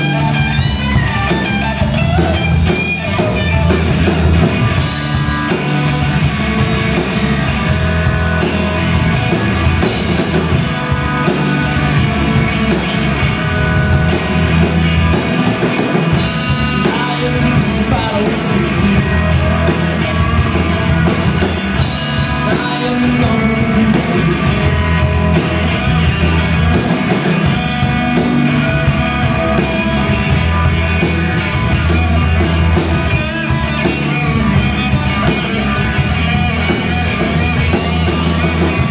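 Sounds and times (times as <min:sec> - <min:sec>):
drum kit beat: 0:00.0 - 0:38.9
electric bass: 0:00.0 - 0:38.9
electric guitar: 0:00.0 - 0:38.9.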